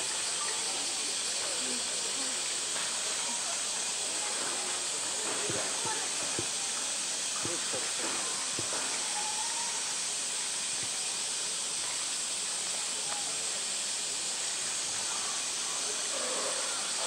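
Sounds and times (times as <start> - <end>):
faint voices: 0.0 - 17.0
steady hissing: 0.0 - 17.0.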